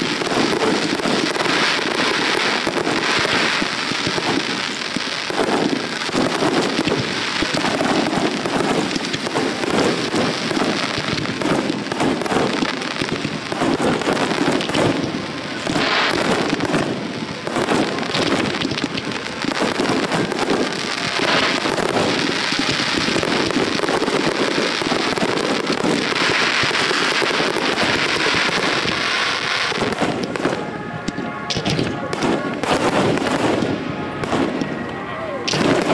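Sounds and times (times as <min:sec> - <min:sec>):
fireworks bursts and crackling: 0:00.0 - 0:35.9.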